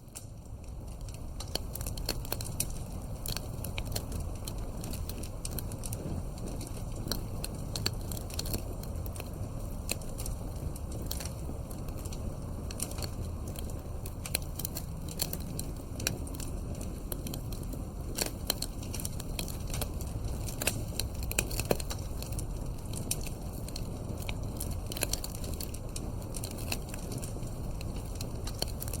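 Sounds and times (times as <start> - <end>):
low rumble of flame: 0.0 - 29.0
wood fire crackling and popping: 0.0 - 29.0.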